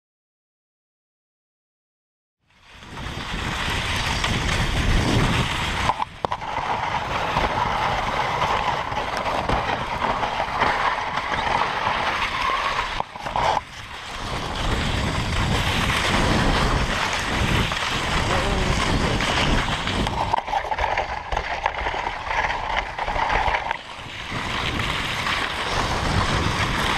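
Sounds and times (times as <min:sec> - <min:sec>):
sled runners rushing on snow: 0:02.5 - 0:26.9
wind rumbling on microphone: 0:02.5 - 0:26.9.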